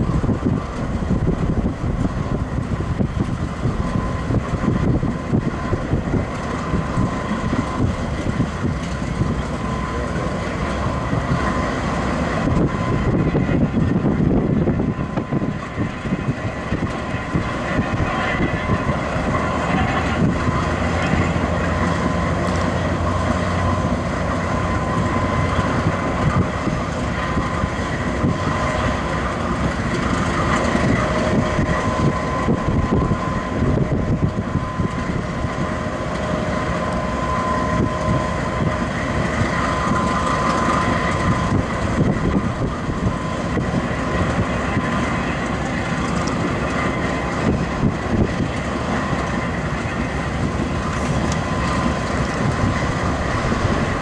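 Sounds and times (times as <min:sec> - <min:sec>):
diesel locomotive idling: 0:00.0 - 0:54.0
high whine: 0:00.0 - 0:54.0
wind noise on microphone: 0:00.0 - 0:54.0.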